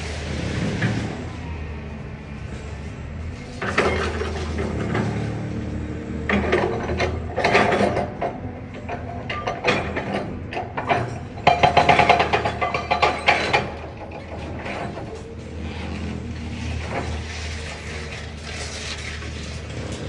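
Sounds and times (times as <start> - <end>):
diesel engine running: 0.0 - 20.0
rattling crunching clatter: 2.4 - 20.0.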